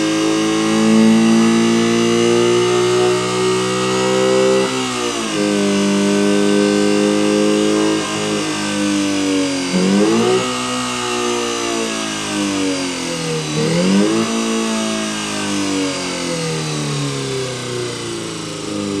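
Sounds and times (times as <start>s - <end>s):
synthetic engine revving: 0.0s - 19.0s.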